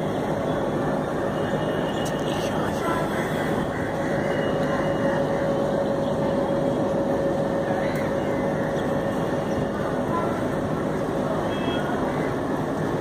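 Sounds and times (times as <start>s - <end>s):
steady whine: 0.0s - 13.0s
train rumbling: 0.0s - 13.0s.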